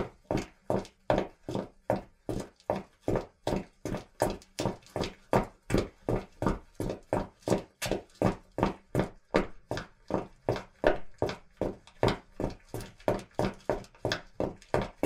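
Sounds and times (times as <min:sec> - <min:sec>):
footsteps on hard surface: 0:00.0 - 0:15.0.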